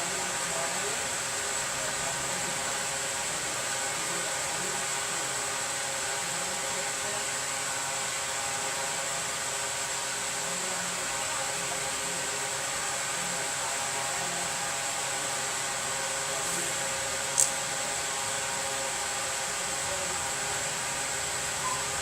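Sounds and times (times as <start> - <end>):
blower-like hiss: 0.0 - 22.0
faint electrical hum: 0.0 - 22.0.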